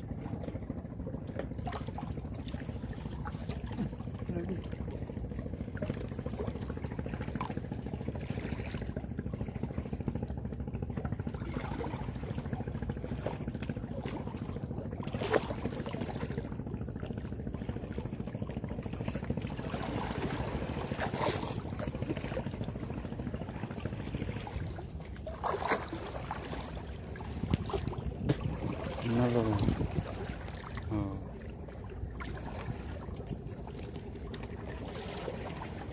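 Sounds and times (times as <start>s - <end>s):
seawater lapping against concrete blocks: 0.0s - 35.9s
steady low rumble: 0.0s - 35.9s.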